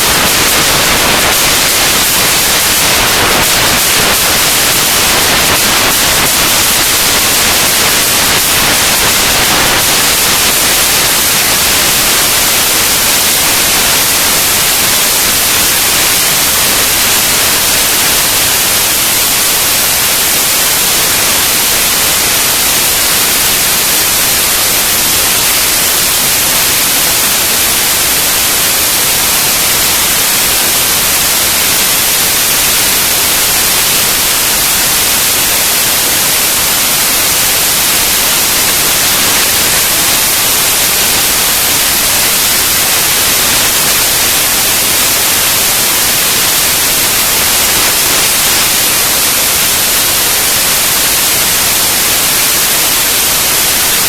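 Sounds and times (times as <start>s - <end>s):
loud steady static hiss: 0.0s - 54.0s.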